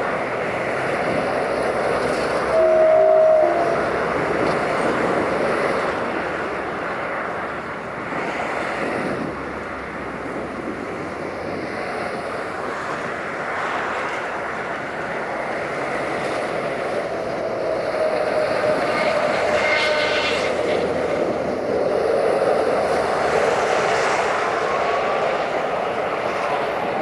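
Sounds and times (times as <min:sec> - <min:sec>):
train engine and wheels rumbling: 0:00.0 - 0:27.0
wind noise on microphone: 0:00.0 - 0:27.0.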